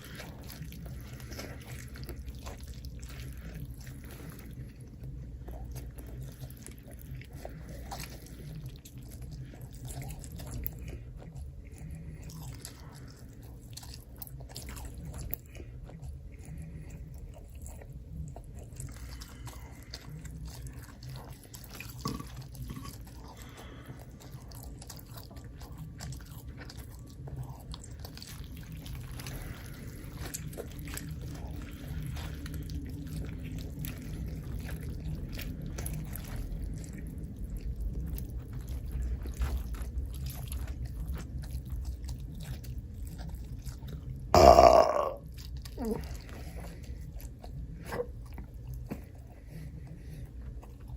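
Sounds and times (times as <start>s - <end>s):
person chewing and biting: 0.0s - 50.9s.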